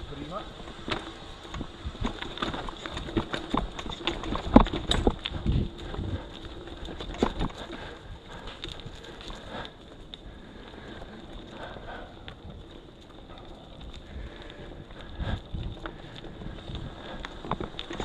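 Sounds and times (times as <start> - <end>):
mountain bike clattering on trail: 0.0 - 18.0.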